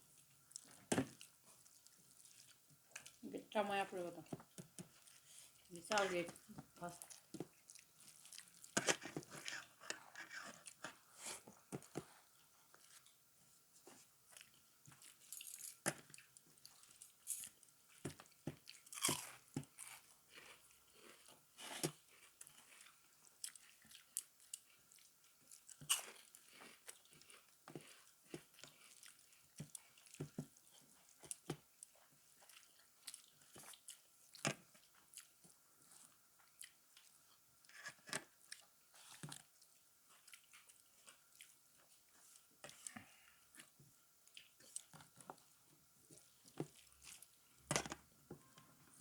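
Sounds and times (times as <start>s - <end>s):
person chewing and crunching: 0.5s - 3.2s, 7.0s - 13.2s, 14.3s - 37.4s, 38.4s - 45.6s, 46.2s - 47.7s.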